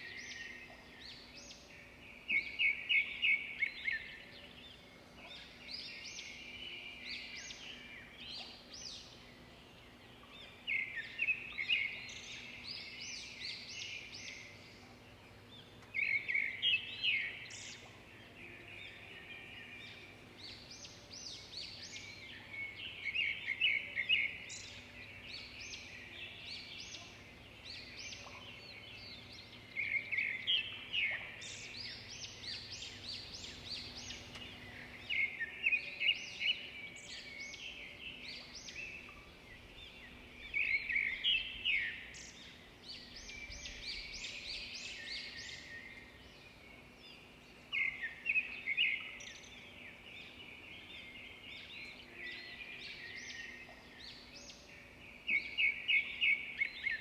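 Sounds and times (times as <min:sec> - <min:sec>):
songbirds chattering song: 0:00.0 - 0:57.0.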